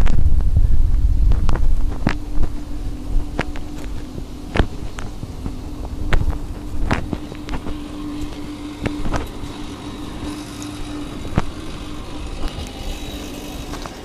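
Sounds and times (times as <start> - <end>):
steady low hum: 0.0 - 14.0
wind buffeting microphone: 0.0 - 14.0.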